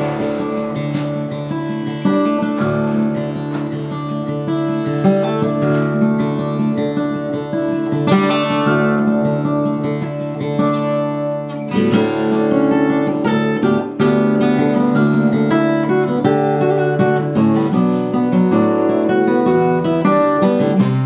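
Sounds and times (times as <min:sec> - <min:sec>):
fingerstyle acoustic guitar: 0:00.0 - 0:21.0.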